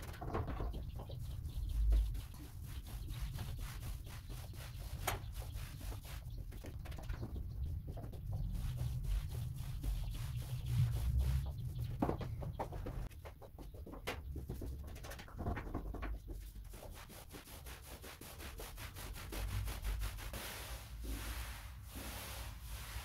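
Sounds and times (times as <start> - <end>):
paint roller rubbing on wall: 0.6 - 12.2, 16.1 - 23.0.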